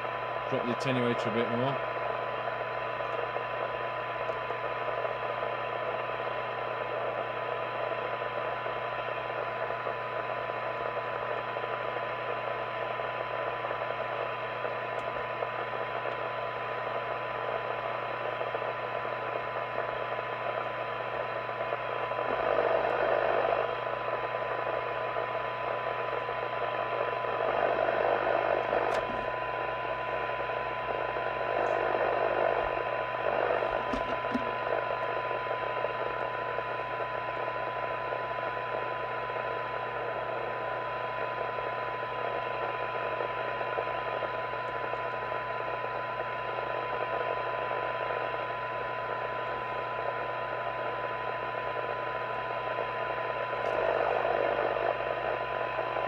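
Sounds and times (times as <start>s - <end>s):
receiver hiss: 0.0s - 56.0s.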